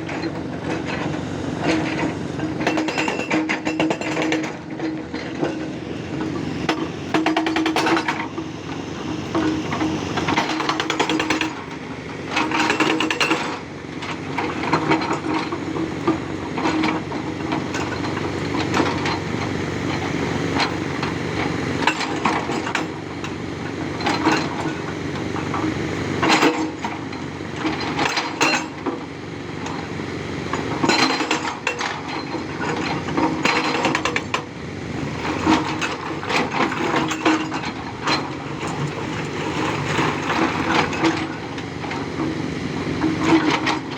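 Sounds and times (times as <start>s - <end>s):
excavator diesel engine running: 0.0s - 43.9s
hydraulic breaker hammering rock: 0.0s - 43.9s.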